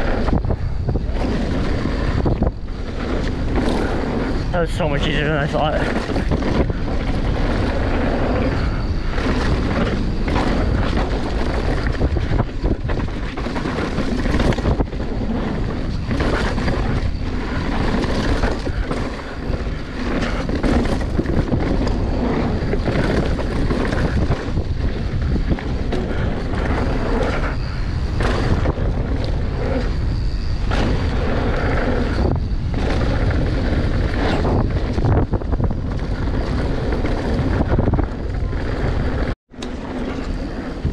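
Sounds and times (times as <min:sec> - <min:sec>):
bike knocking and rattling: 0:00.0 - 0:40.9
bike tyres on dirt: 0:00.0 - 0:40.9
wind rushing over microphone: 0:00.0 - 0:40.9.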